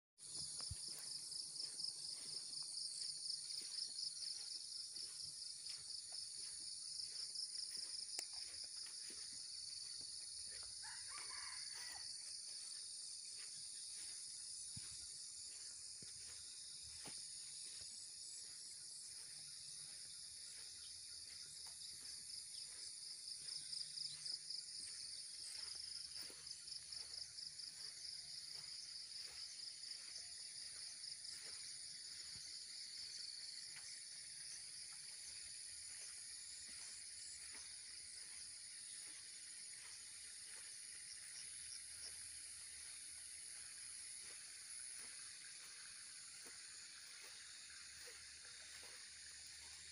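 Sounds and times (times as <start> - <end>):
insects trilling: 0.2 - 49.9
fast pulsing insect trill: 0.6 - 49.9.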